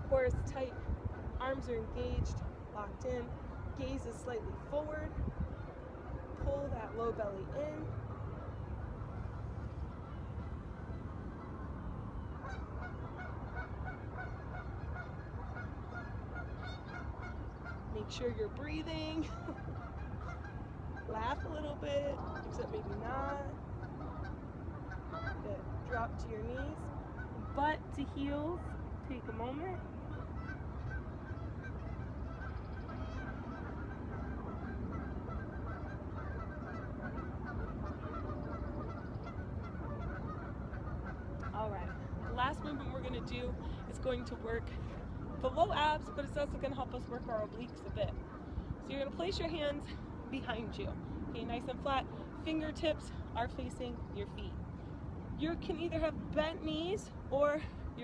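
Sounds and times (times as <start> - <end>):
geese honking: 0.0 - 54.6
flock of birds calling: 0.0 - 58.0
low background noise: 0.0 - 58.0.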